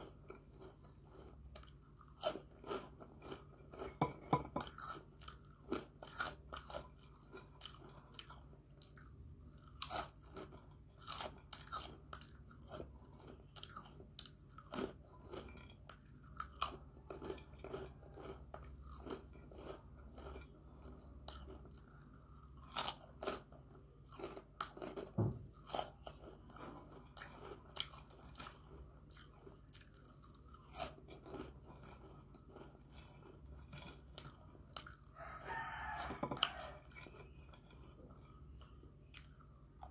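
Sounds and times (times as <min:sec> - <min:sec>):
person chewing crunchy snacks: 0:00.0 - 0:39.9.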